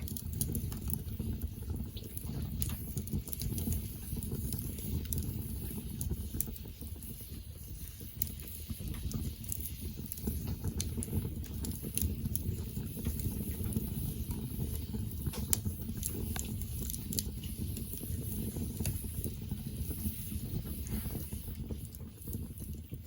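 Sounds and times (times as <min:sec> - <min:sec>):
burning wood crackling and popping: 0:00.0 - 0:23.0
campfire low rumble: 0:00.0 - 0:23.0.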